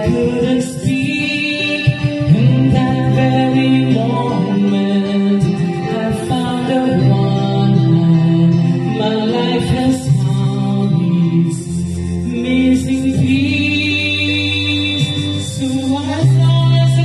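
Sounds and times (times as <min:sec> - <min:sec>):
backing music: 0:00.0 - 0:17.0
woman singing into microphone: 0:00.0 - 0:17.0.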